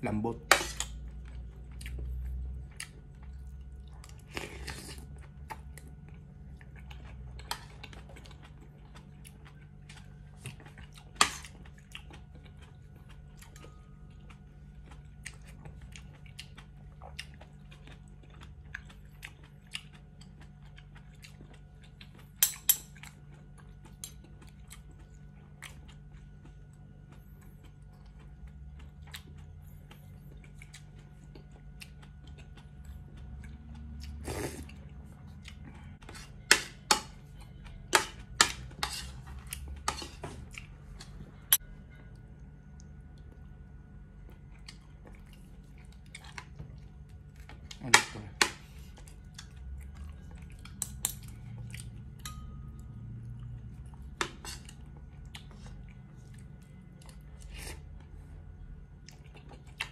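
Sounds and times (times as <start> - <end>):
close-up chewing and smacking: 0.8 - 59.9.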